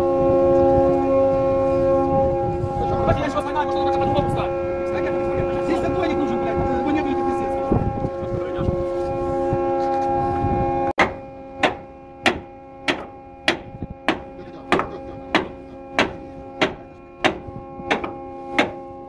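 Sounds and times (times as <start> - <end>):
anchor windlass drone: 0.0 - 19.0.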